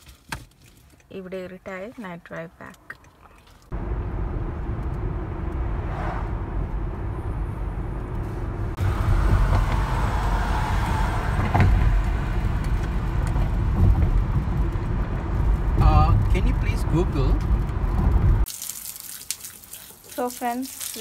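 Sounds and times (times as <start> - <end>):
car cabin road rumble: 0.0 - 18.5.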